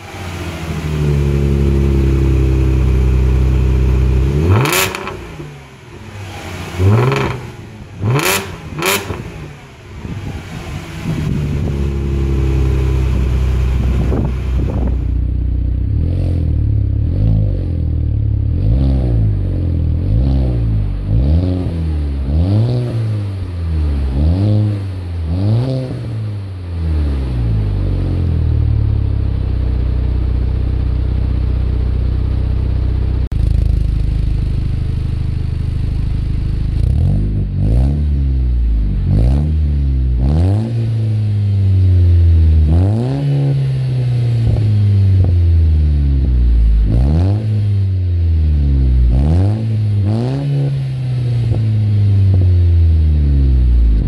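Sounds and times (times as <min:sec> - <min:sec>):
car engine revving and idling: 0:00.0 - 0:54.0.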